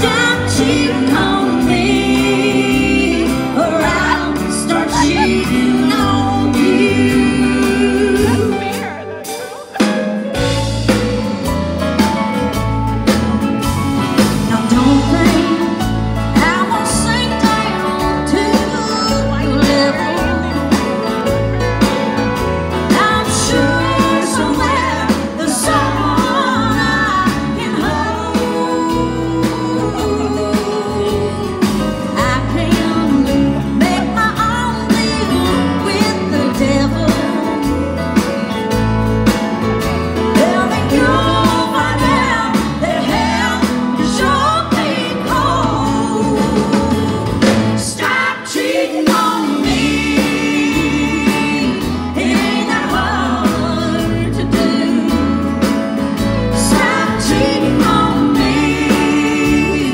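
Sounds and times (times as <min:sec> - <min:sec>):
woman singing into a microphone: 0:00.0 - 0:09.8, 0:14.2 - 0:21.0, 0:22.9 - 0:38.5, 0:40.3 - 0:59.9
drums: 0:00.0 - 0:59.9
electric guitar: 0:00.0 - 0:59.9.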